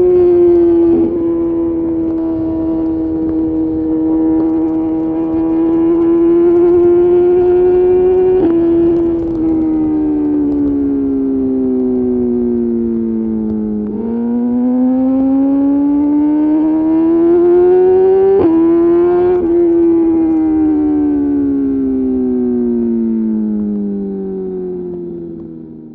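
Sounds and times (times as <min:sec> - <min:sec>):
gear change: 0:00.0 - 0:21.8
motorcycle engine accelerating: 0:00.0 - 0:25.9.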